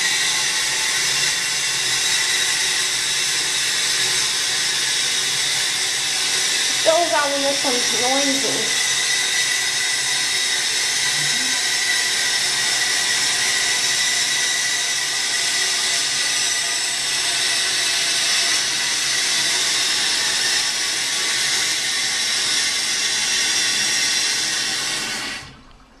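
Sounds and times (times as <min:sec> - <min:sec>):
toilet fill valve hissing: 0:00.0 - 0:25.7.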